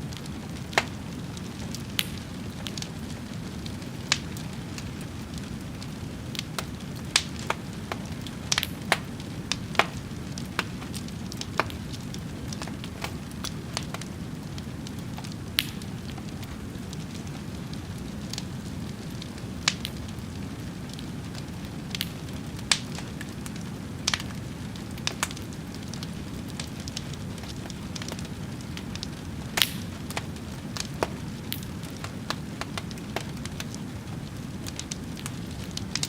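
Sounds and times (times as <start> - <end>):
fire crackling: 0.0 - 36.0.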